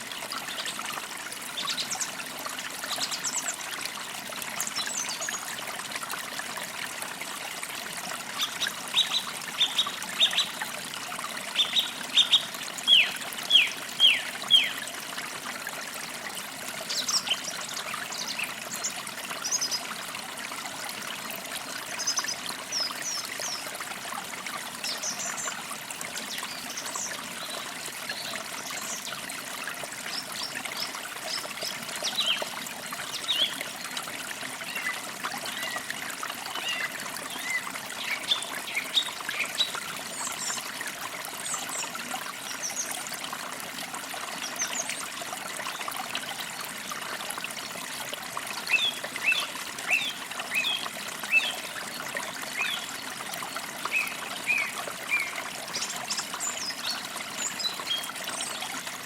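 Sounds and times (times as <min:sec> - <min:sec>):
creek babbling over stones: 0:00.0 - 0:59.0.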